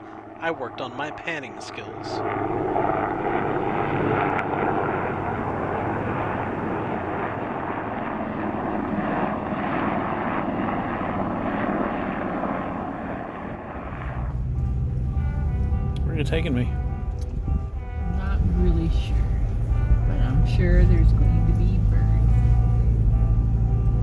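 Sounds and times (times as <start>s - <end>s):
helicopters flying overhead: 0.0s - 24.0s.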